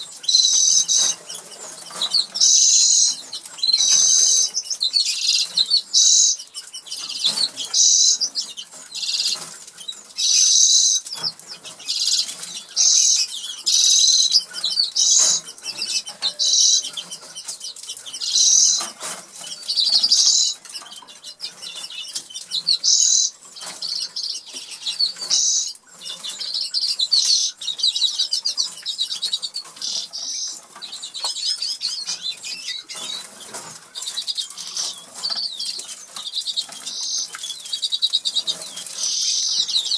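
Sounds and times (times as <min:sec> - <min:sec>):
canaries trilling: 0:00.0 - 0:39.9.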